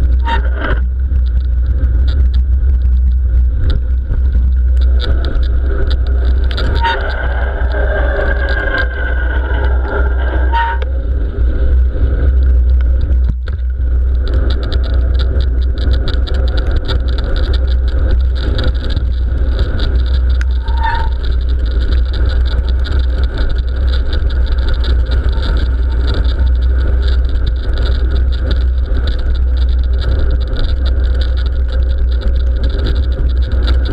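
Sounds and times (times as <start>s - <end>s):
patter of small ticks: 0.0s - 10.9s, 12.2s - 33.9s
wind rumble on microphone: 0.0s - 33.9s.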